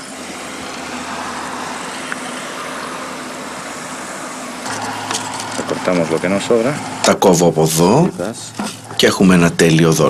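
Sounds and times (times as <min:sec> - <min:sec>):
steady rushing noise: 0:00.0 - 0:08.5.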